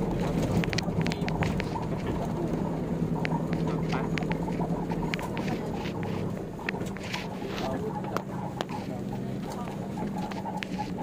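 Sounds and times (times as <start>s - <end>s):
vehicle engine and road hum: 0.0s - 11.0s.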